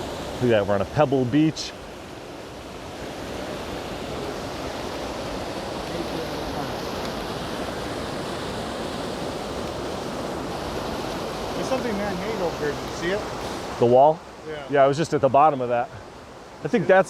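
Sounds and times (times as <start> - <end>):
creek water pouring over falls: 0.0 - 17.0.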